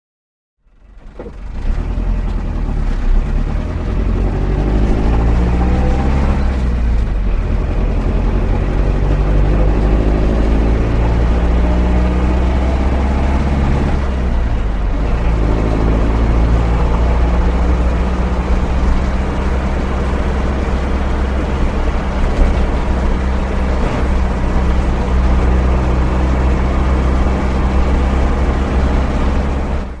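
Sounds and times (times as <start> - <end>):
diesel engine accelerating: 0.6 - 30.0.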